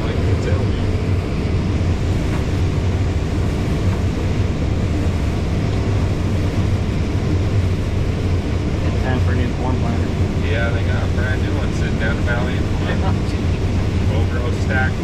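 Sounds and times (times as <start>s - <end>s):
combine harvester drone from cab: 0.0s - 15.0s.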